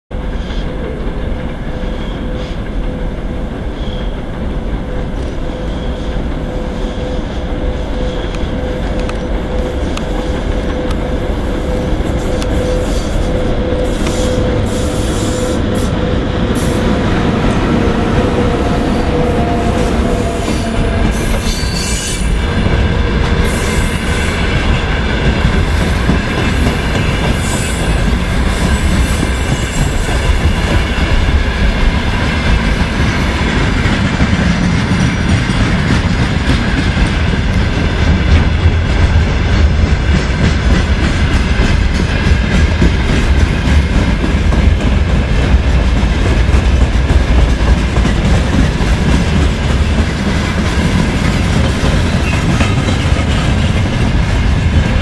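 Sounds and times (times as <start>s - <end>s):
train wheels rumbling on rail: 0.1s - 55.0s.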